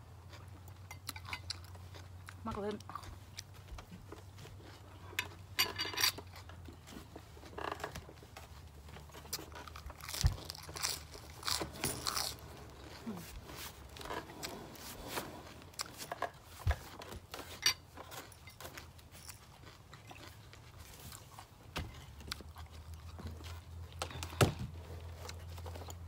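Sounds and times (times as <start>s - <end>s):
crunching and chewing crisp food: 0.0s - 26.0s.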